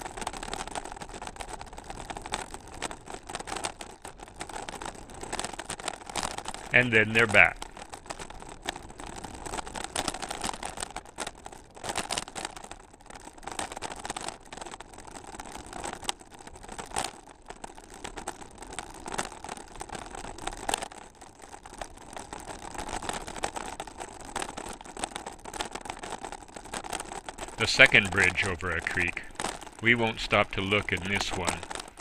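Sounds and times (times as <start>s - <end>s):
bicycle rolling noise: 0.0s - 6.8s, 7.4s - 29.9s, 30.7s - 32.0s.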